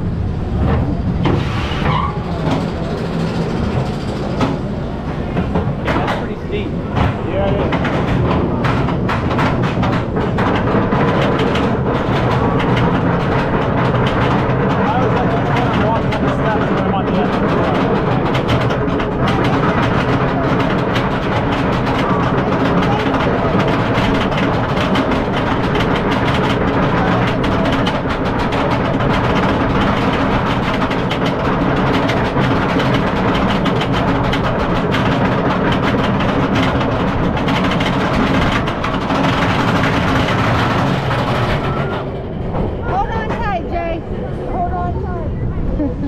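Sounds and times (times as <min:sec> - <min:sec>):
roller coaster lift chain clattering: 0:00.0 - 0:46.0.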